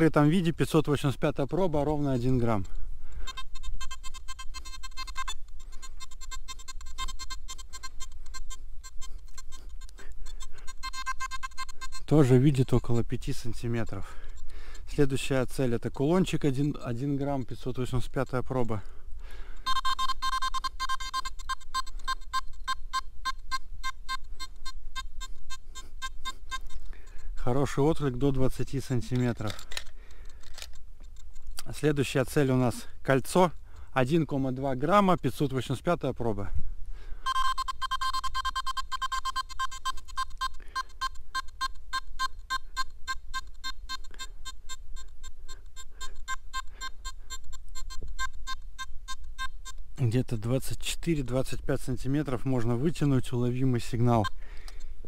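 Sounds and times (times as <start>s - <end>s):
metal detector beeping: 1.5s - 18.9s, 19.6s - 31.2s, 37.2s - 50.6s, 51.2s - 55.0s.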